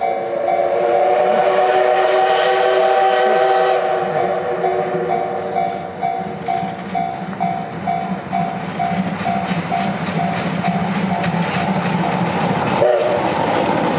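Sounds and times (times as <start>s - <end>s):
level-crossing warning bell: 0.0s - 1.8s, 3.6s - 13.9s
train rumbling past: 0.0s - 13.9s.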